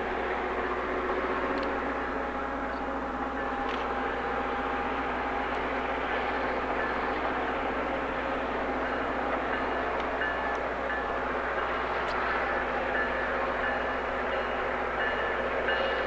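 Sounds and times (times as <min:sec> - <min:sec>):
train rolling past: 0:00.0 - 0:16.0.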